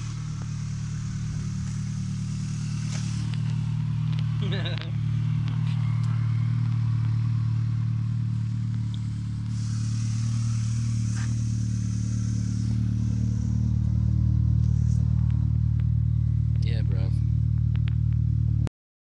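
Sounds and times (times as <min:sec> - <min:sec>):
car engine running steadily: 0:00.0 - 0:18.7.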